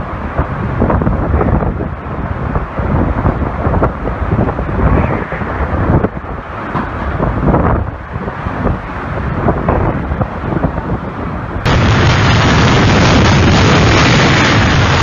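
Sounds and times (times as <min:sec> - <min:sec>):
gusting wind buffeting microphone: 0:00.0 - 0:15.0.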